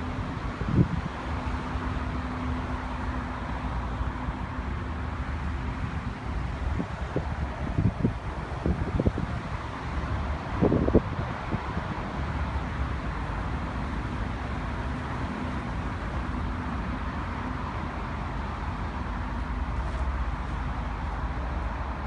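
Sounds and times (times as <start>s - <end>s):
engines rumbling: 0.0s - 22.0s.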